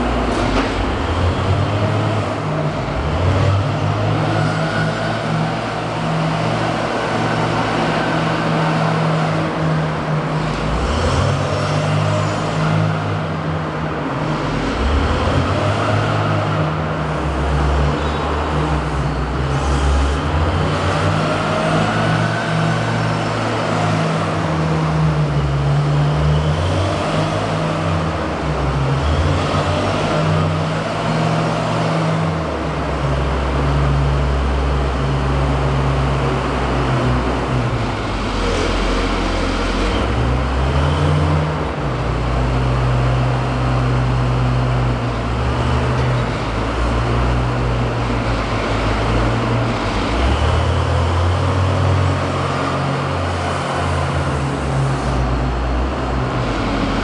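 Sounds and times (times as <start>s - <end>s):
wheel loader diesel engine running: 0.0s - 57.0s.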